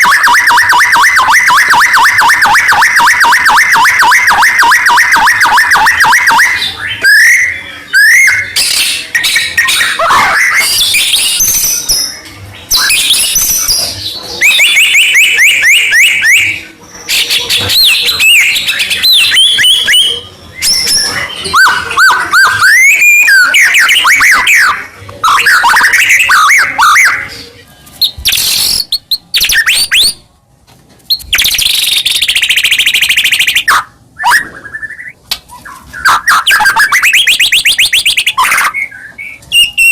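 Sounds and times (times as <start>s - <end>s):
songbird singing whistles and trills: 0.0s - 27.4s, 28.0s - 30.2s, 31.1s - 39.9s.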